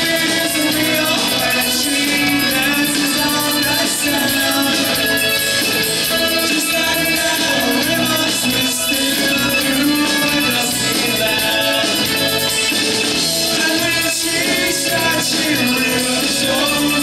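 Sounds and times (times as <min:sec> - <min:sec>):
man singing: 0:00.0 - 0:12.7, 0:13.3 - 0:17.0
live rock band: 0:00.0 - 0:17.0.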